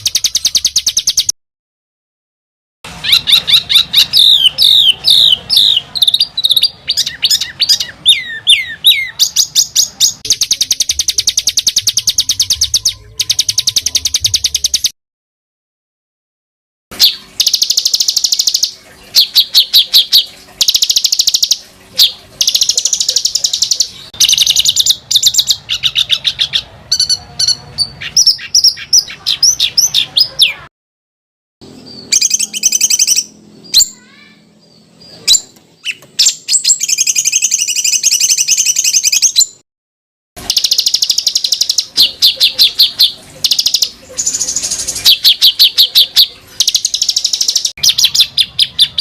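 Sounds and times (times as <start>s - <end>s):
songbirds trilling and chattering: 2.9s - 14.9s, 17.0s - 30.7s, 31.6s - 39.6s, 40.4s - 49.0s.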